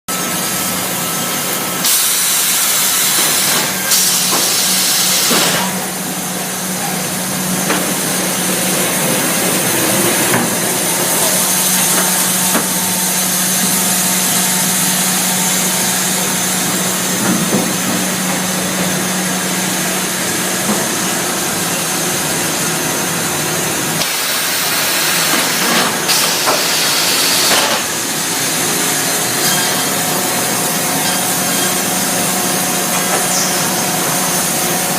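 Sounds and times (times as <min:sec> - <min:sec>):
sawmill machinery running: 0:00.1 - 0:34.9.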